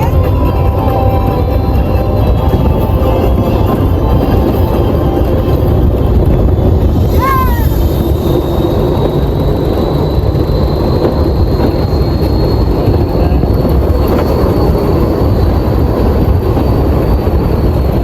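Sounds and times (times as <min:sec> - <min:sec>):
ride vehicle wind rush: 0:00.0 - 0:18.0.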